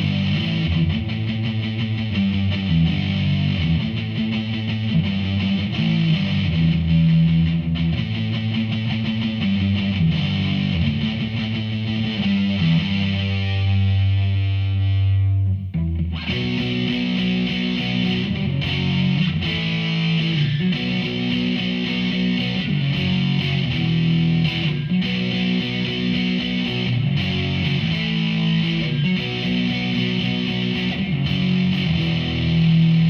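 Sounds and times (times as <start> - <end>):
distorted electric guitar: 0.0 - 33.0.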